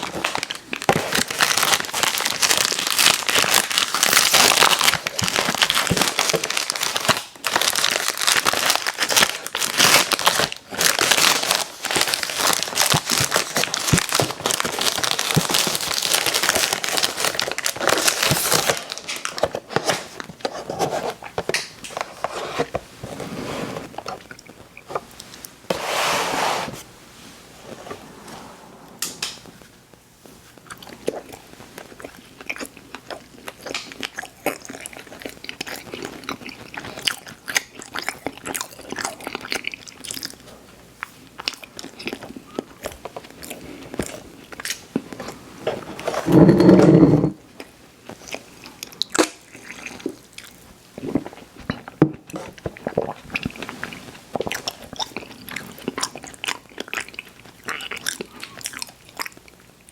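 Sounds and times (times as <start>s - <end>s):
person chewing snacks: 0.0s - 22.7s, 30.5s - 47.0s, 47.6s - 59.9s.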